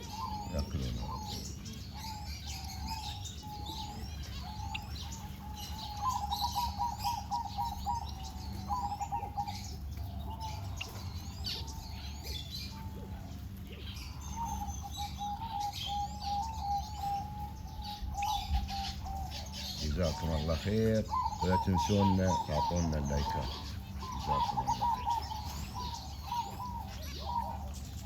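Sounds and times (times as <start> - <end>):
birds chirping: 0.0 - 28.0
low bird call: 0.0 - 28.0
steady low hum: 0.0 - 28.0.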